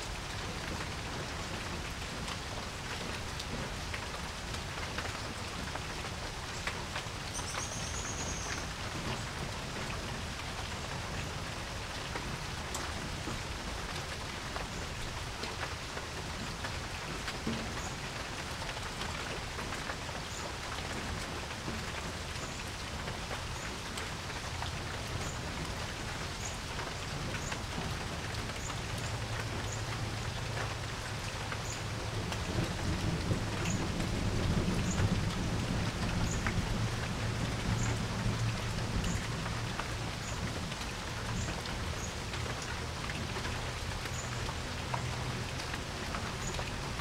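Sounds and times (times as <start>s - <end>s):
rain drops ticking on porch: 0.0s - 47.0s.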